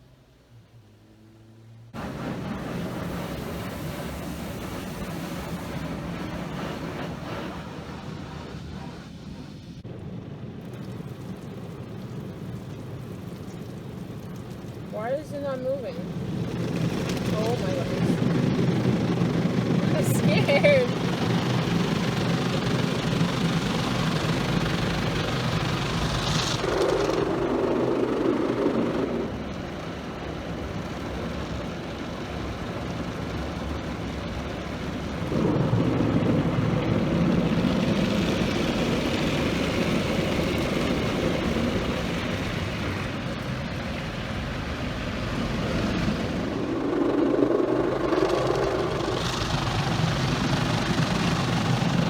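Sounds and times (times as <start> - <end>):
car wash machinery rushing: 0.1 - 52.0.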